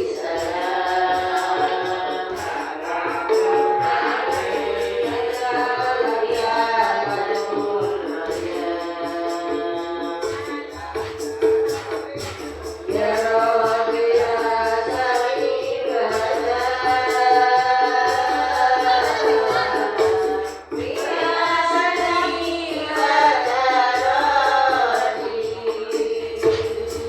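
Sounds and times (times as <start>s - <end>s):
frame drums beating: 0.0s - 27.0s
group of voices singing: 0.0s - 27.0s.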